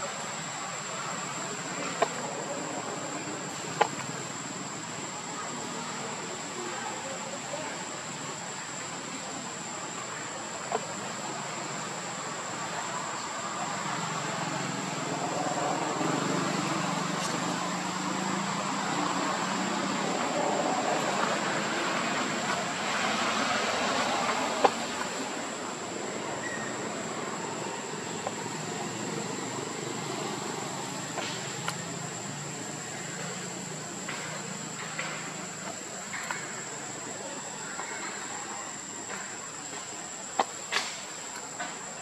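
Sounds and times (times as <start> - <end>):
outdoor rushing background noise: 0.0 - 42.0.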